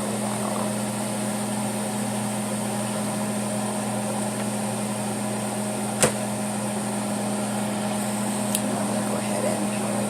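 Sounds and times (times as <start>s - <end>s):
air fryer fan and motor hum: 0.0s - 10.0s.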